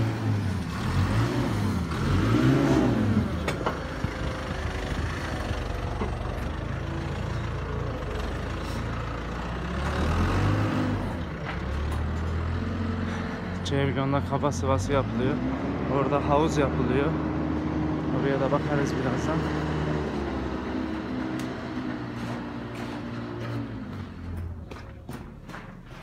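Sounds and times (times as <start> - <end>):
engine revving: 0.0 - 7.3, 8.0 - 25.6.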